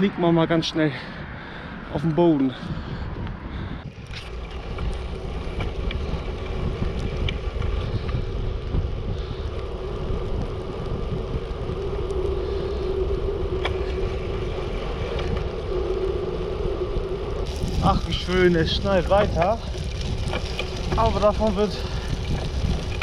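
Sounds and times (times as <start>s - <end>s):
bicycle tyres rolling on snow: 0.0s - 23.0s
wind on microphone: 0.0s - 23.0s.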